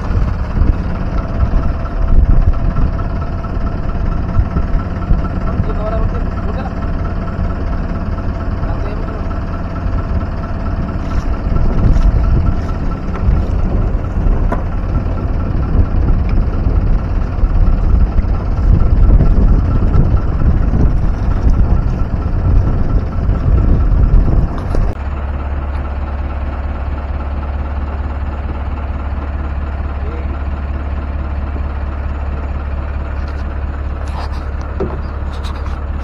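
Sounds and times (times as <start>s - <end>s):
boat engine rumbling: 0.0s - 36.0s
steady low hum: 0.0s - 36.0s.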